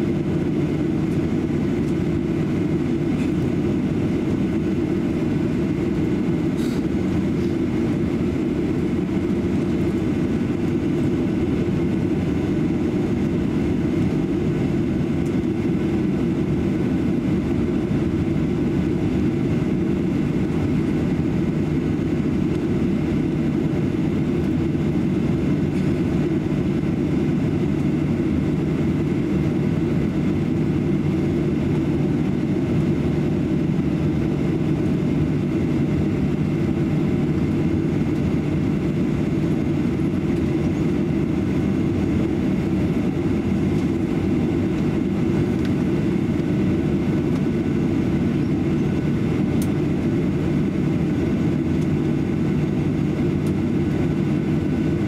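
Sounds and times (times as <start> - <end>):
aircraft cabin rumble: 0.0 - 55.0
faint high engine whine: 0.0 - 55.0.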